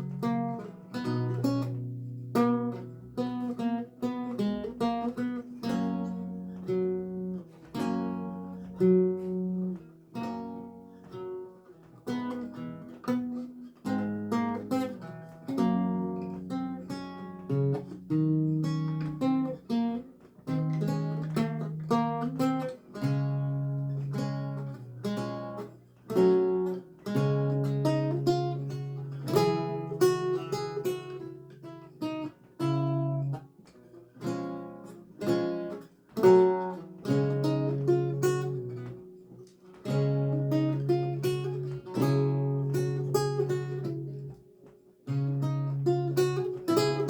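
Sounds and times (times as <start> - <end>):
solo lute music: 0.0 - 47.0.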